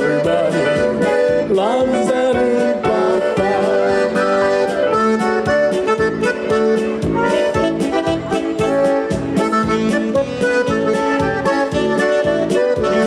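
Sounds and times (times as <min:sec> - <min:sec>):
polka band with accordion: 0:00.0 - 0:13.0.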